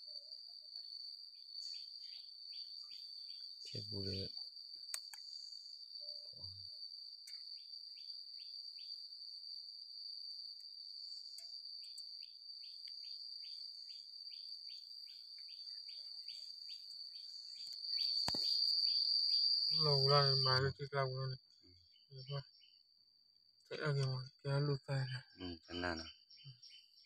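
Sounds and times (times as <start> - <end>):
insect chirps: 0.0 - 27.0
insects buzzing: 0.0 - 27.0.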